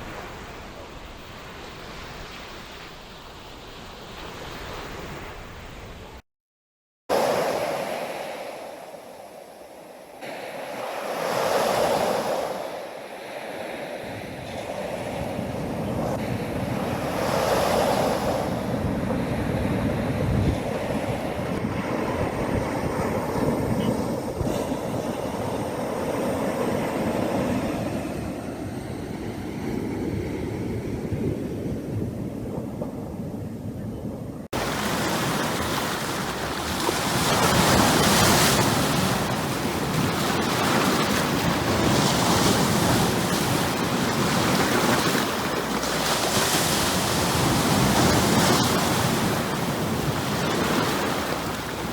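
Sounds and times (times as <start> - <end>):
ocean waves breaking: 7.1 - 32.9, 34.5 - 51.9
wind on microphone: 7.4 - 51.9.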